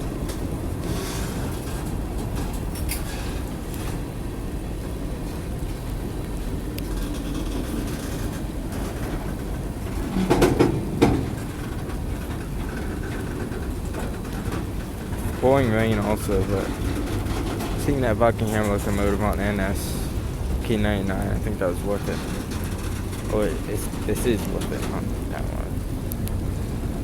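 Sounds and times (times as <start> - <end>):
train cars clanking: 0.0 - 27.0
train wheels rumbling on rails: 0.0 - 27.0.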